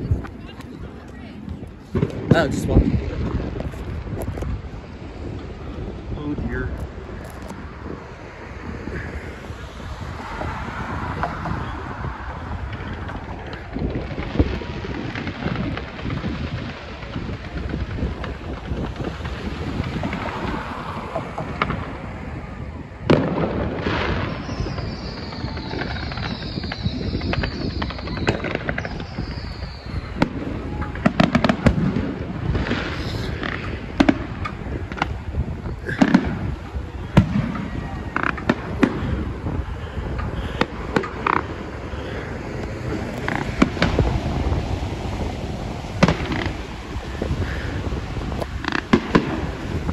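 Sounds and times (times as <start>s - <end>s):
firework crackle: 0.0s - 49.9s
low rumble of traffic: 0.0s - 49.9s
wind: 0.0s - 49.9s
firework bang: 1.9s - 49.9s.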